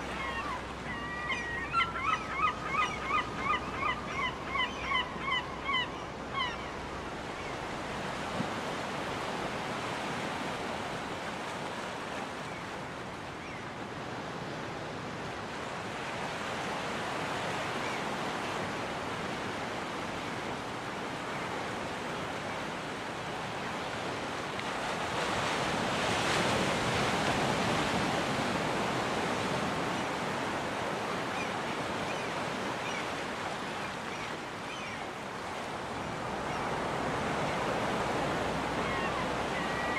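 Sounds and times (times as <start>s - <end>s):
waves breaking on beach: 0.0s - 0.9s, 6.1s - 39.9s.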